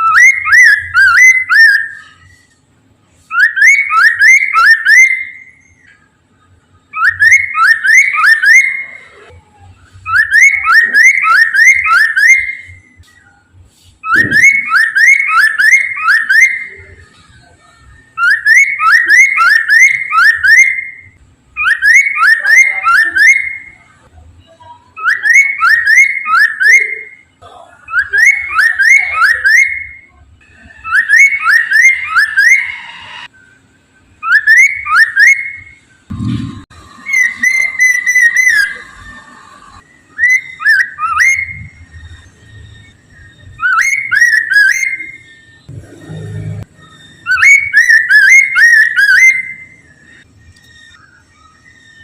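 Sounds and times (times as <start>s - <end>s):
bird singing whistled notes: 0.0s - 2.4s, 3.3s - 6.0s, 6.9s - 9.2s, 10.0s - 13.4s, 14.0s - 23.9s, 24.9s - 27.3s, 27.9s - 35.9s, 36.9s - 52.0s.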